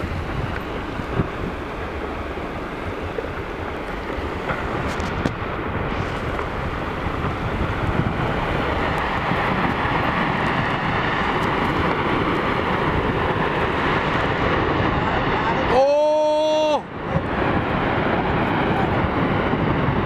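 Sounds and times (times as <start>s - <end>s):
ice collapsing into water roar: 0.0s - 20.0s.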